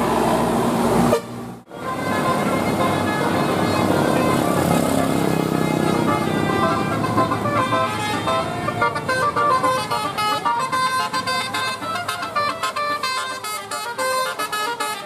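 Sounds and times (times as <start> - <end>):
bus engine running: 0.0 - 15.0
multi-tone air horn melody: 1.1 - 15.0.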